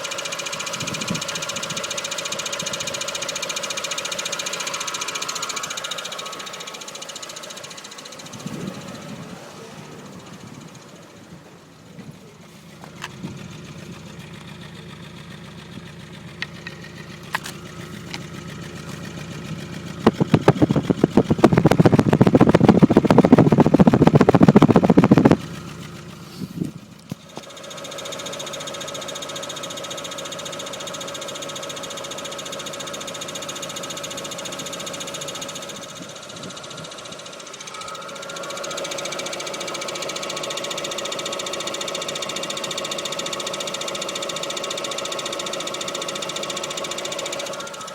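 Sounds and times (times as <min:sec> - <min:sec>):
car engine idling: 0:00.0 - 0:47.9
loud rapid rattle: 0:00.0 - 0:47.9.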